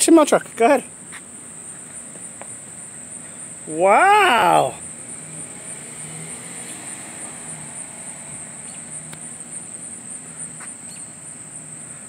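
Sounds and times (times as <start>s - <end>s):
high-pitched insect drone: 0.1s - 12.0s.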